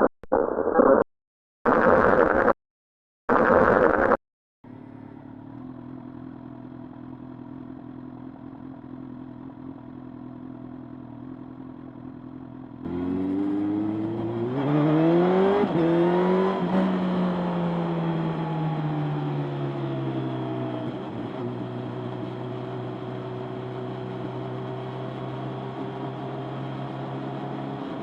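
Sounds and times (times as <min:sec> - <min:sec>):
motorcycle engine accelerating: 0:04.7 - 0:28.0.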